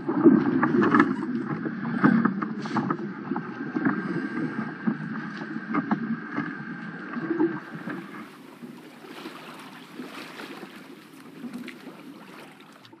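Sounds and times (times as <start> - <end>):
thin steady whine: 0.0 - 13.0
underwater rumble and bubbles: 0.0 - 13.0.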